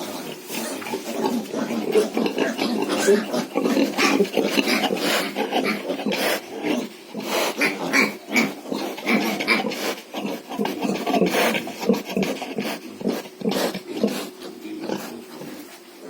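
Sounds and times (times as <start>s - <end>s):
pigs grunting and squealing: 0.0s - 15.7s.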